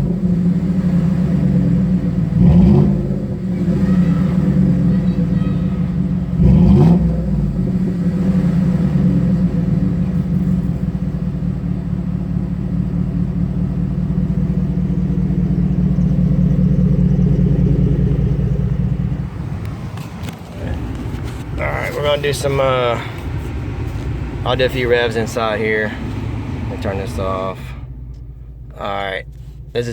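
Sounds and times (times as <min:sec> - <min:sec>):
truck engine deep rumble: 0:00.0 - 0:29.9.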